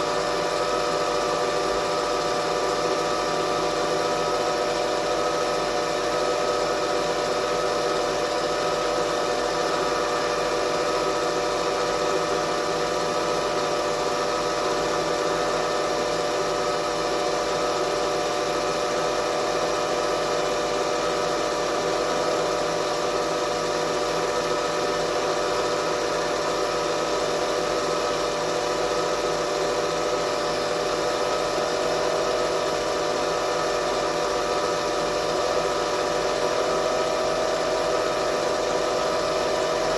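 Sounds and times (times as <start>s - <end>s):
milling machine humming: 0.0s - 39.9s.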